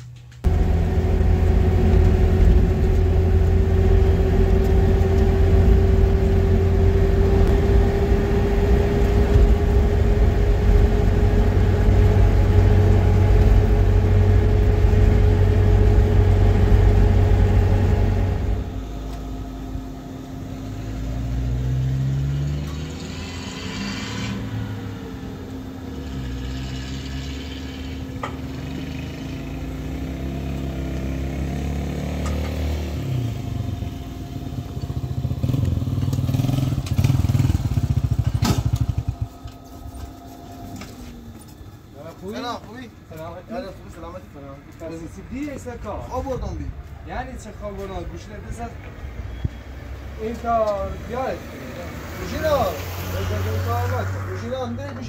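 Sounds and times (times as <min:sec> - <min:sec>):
engine and tyre rumble: 0:00.0 - 0:55.0
faint engine sound: 0:00.0 - 0:55.0
steady whine: 0:00.3 - 0:55.0.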